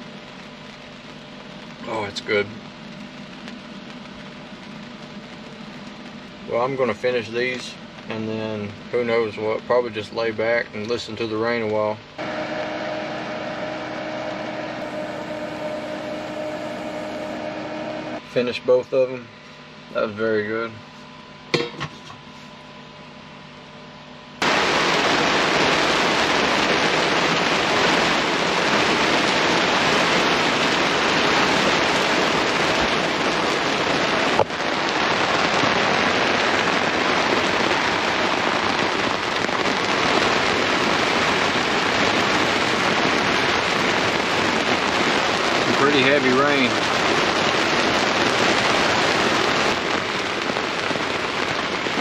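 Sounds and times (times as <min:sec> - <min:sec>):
heavy rain hissing: 0:00.0 - 0:18.6, 0:24.4 - 0:52.0.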